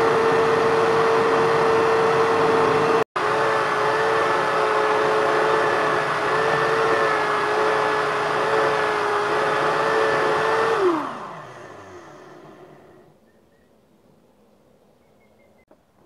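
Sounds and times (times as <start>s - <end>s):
electric drill whining: 0.0s - 13.1s.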